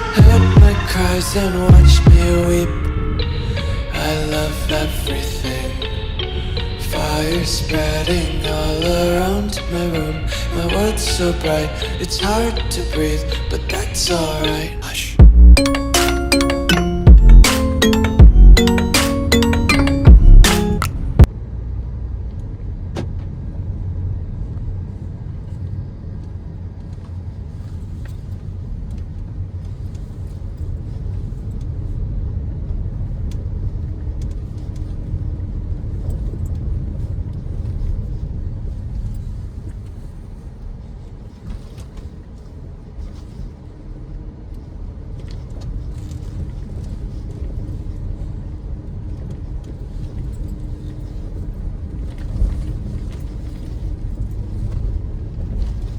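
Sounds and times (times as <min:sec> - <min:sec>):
car engine and tyres rumbling: 0:00.0 - 0:16.0, 0:19.8 - 0:55.9.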